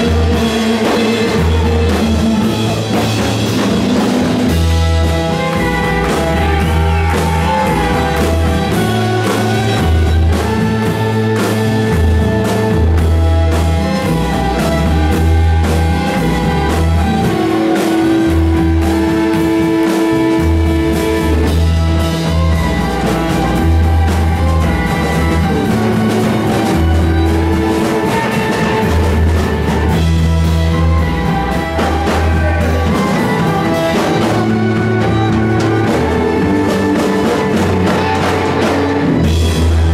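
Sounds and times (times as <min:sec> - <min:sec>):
bass line: 0:00.0 - 0:39.9
drum kit: 0:00.0 - 0:39.9
guitars: 0:00.0 - 0:39.9.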